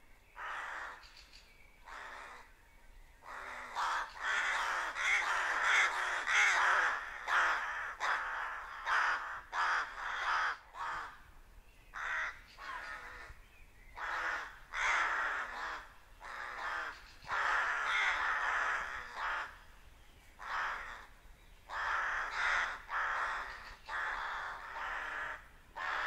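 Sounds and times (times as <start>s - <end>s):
rooks cawing: 0.4s - 1.1s, 1.8s - 2.5s, 3.2s - 13.4s, 14.0s - 19.7s, 20.4s - 26.0s.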